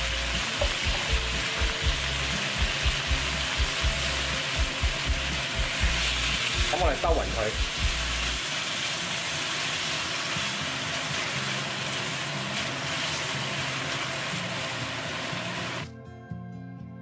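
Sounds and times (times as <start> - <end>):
sauce sizzling in a wok: 0.0 - 15.8
music: 0.0 - 17.0.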